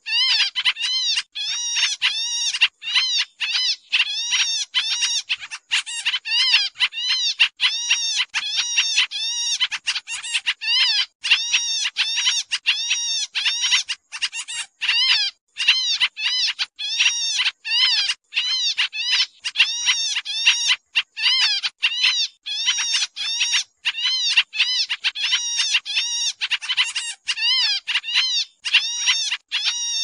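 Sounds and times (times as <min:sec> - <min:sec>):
bird rapid short calls: 0:00.0 - 0:30.0.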